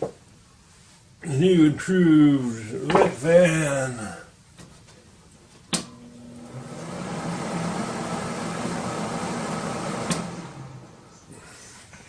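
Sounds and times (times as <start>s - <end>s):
range hood fan whirring: 0.0s - 12.0s.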